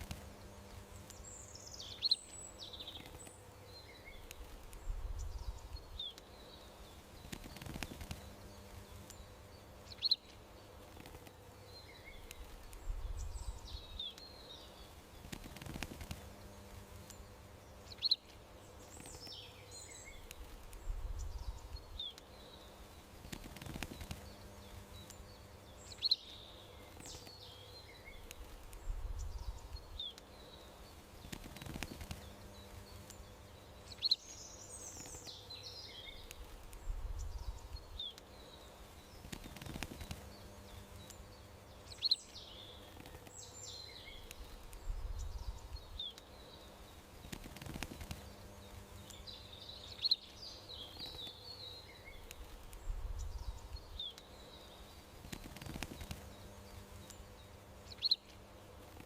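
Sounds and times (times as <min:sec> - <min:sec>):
faint steady hum: 0:00.0 - 0:59.0
songbirds chirping: 0:00.0 - 0:59.0.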